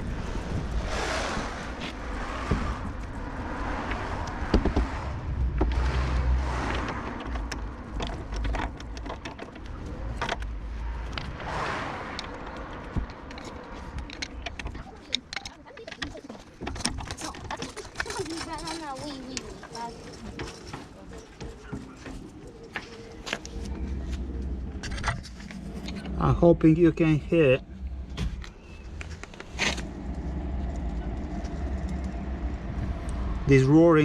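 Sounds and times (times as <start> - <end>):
wheel bearing roaring: 0.0 - 34.0.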